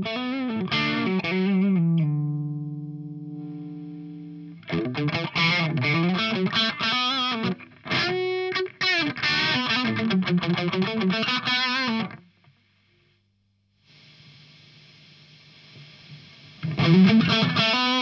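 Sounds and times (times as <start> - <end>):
distorted electric guitar: 0.0 - 13.2, 13.9 - 18.0.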